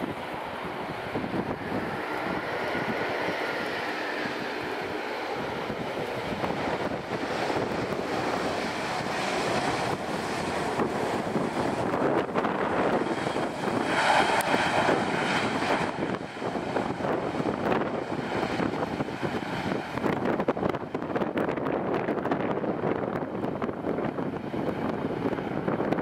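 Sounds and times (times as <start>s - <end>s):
jet engine rushing: 0.0s - 26.0s
wind buffeting microphone: 0.0s - 26.0s.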